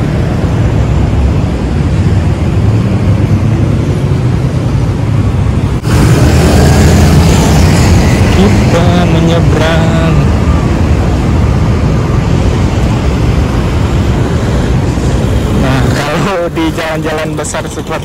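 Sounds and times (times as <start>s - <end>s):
cars passing: 0.0s - 18.0s
rumble of engines and tyres: 0.0s - 18.0s.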